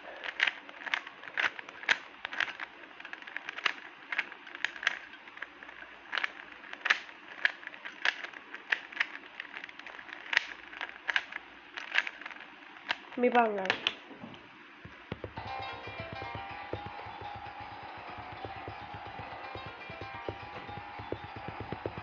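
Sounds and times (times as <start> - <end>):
crackling clicks and pops: 0.0 - 22.0.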